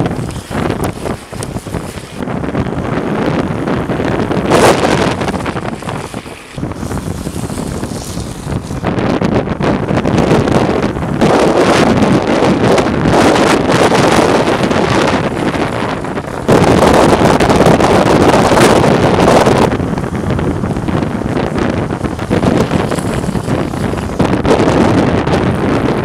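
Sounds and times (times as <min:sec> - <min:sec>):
longboard wheels rolling on asphalt: 0:00.0 - 0:26.0
wind rushing over microphone: 0:00.0 - 0:26.0.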